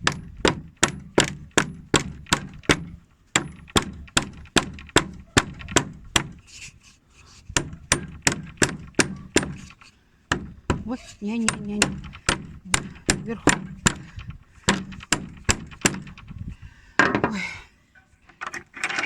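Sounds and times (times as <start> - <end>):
hammer striking metal hinge: 0.0 - 6.5, 7.5 - 17.3.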